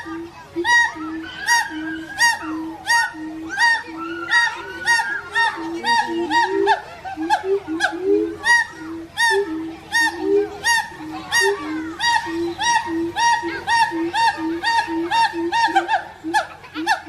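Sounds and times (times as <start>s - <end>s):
lower steady short calls: 0.0s - 17.0s
monkeys short pitched calls: 0.0s - 17.0s.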